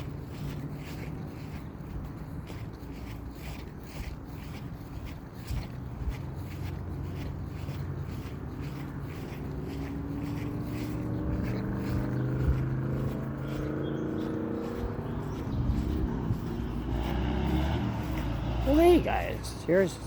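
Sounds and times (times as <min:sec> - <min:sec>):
motor vehicle passing: 0:00.0 - 0:20.0.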